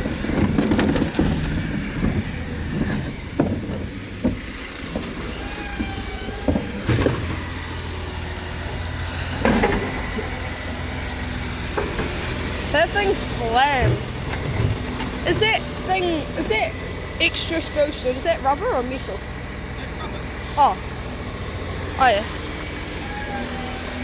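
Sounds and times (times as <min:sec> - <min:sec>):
wavering hydraulic whine: 0:00.0 - 0:19.2, 0:21.4 - 0:24.0
truck engine drone: 0:00.0 - 0:24.0.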